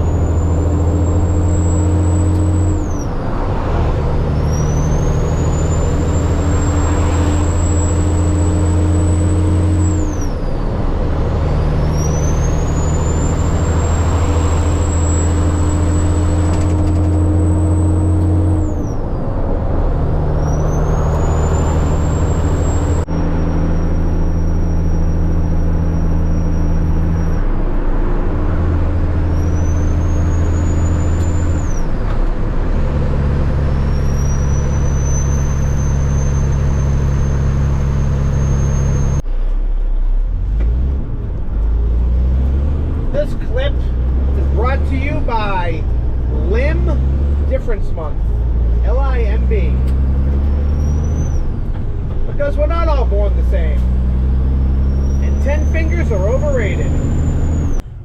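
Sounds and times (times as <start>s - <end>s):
diesel truck engine shifting gears: 0.0s - 58.0s.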